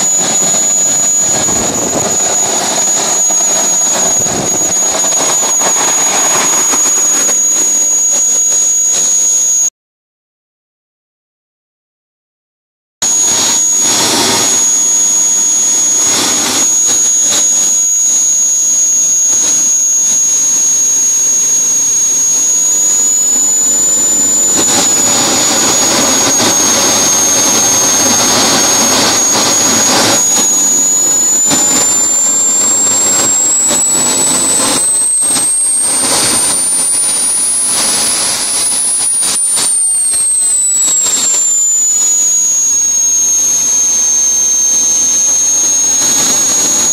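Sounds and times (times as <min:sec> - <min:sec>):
jet turbine engine whining: 0:00.0 - 0:09.7, 0:13.0 - 0:46.9.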